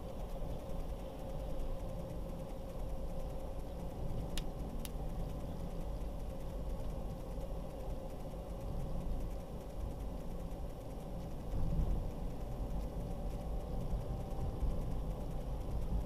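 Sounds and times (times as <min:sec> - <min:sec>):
car road and engine rumble: 0:00.0 - 0:16.0
faint hum: 0:00.0 - 0:16.0
light clicks: 0:00.0 - 0:16.0.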